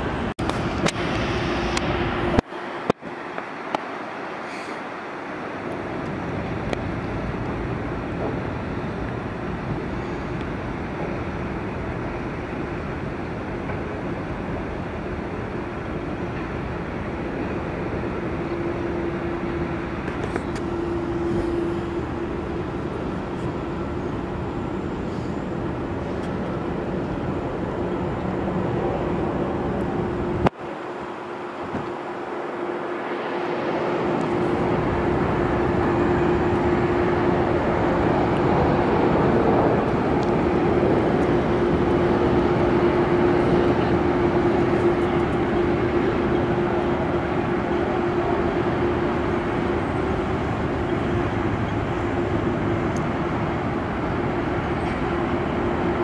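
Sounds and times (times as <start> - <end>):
jet engines rumbling with whine: 0.0 - 56.0.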